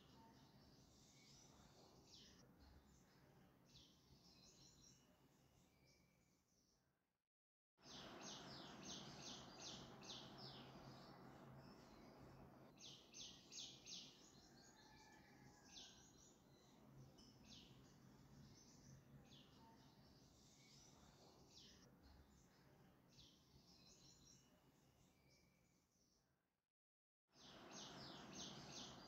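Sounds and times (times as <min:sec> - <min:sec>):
small birds chirping: 0:00.0 - 0:06.7, 0:07.8 - 0:25.7, 0:27.4 - 0:29.0.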